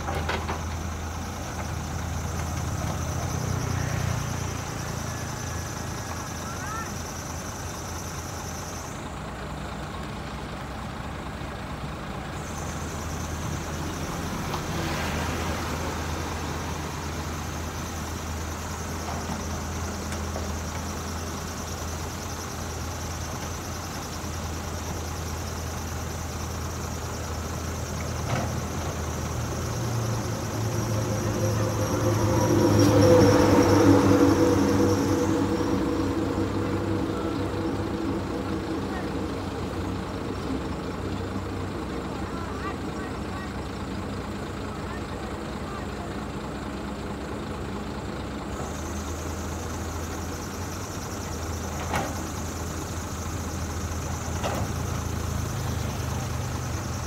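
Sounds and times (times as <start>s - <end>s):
heavy diesel engines revving: 0.0s - 57.0s.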